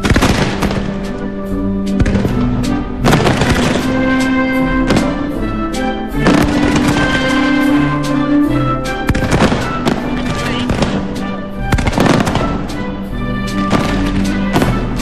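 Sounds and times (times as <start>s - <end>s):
fireworks bangs and crackles: 0.0s - 15.0s
music with long held notes: 0.0s - 15.0s.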